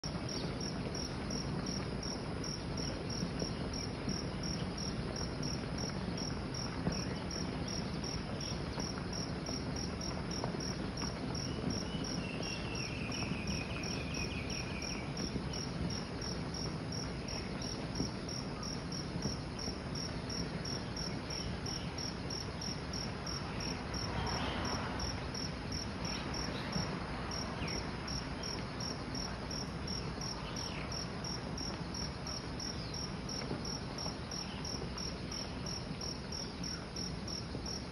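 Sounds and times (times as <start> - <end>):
insect chirping: 0.0 - 37.9
constant rushing noise: 0.1 - 37.9.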